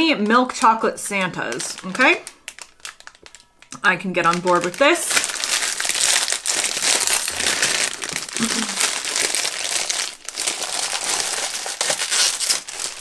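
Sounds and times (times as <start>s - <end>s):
wrapper crinkling and tearing: 1.4s - 13.0s.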